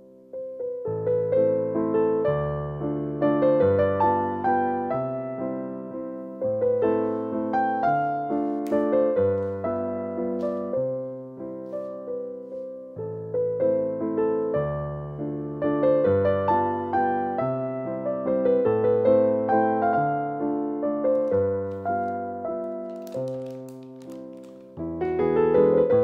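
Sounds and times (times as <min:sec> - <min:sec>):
gentle solo piano: 0:00.0 - 0:26.0.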